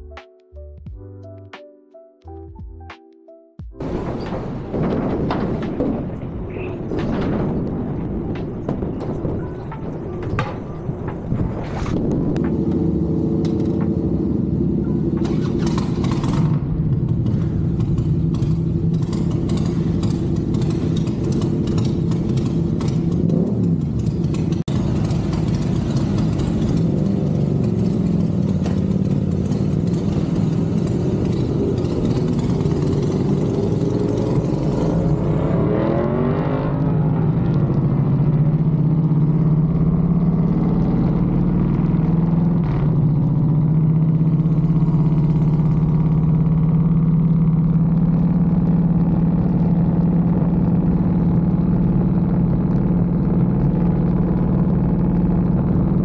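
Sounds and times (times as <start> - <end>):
motorcycle engine: 3.8 - 56.0.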